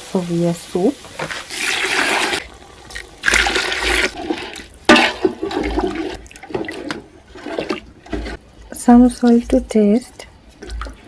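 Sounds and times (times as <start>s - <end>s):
soup pouring and splashing: 1.1s - 11.0s.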